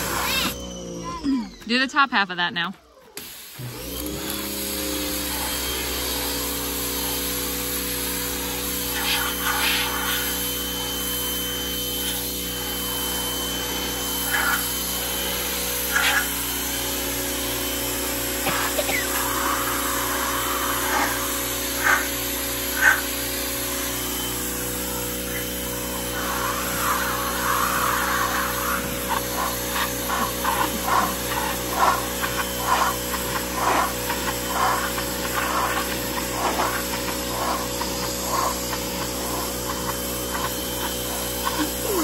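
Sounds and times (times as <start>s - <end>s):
electric pressure washer humming: 0.0s - 42.0s
water jet hissing on metal: 5.2s - 42.0s.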